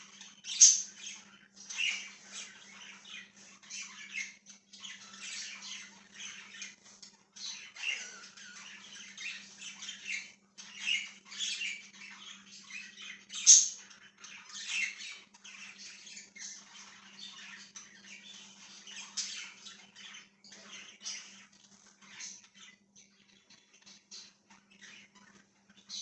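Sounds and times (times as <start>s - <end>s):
budgies chattering and chirping: 0.0s - 26.0s.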